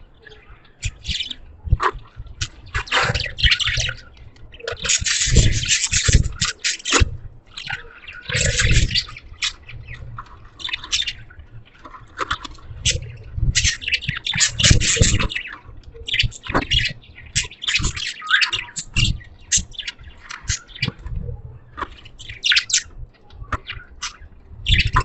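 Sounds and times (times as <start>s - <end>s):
budgies chattering: 0.0s - 25.0s.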